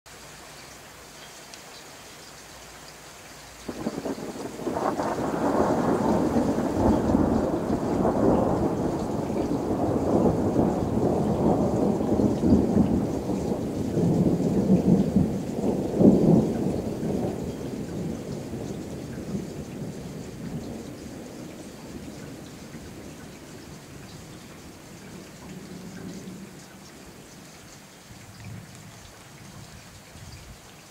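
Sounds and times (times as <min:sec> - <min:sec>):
rain falling: 0:00.1 - 0:30.9
thunder rumbling: 0:03.7 - 0:30.4.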